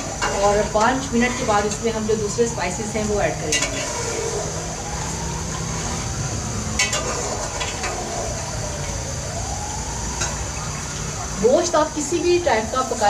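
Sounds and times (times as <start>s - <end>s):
siren rising and falling: 0.0s - 13.0s.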